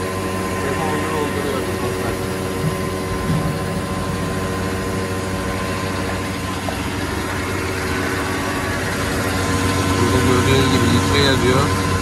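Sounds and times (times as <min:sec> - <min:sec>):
fuel pump machine hum: 0:00.0 - 0:12.0.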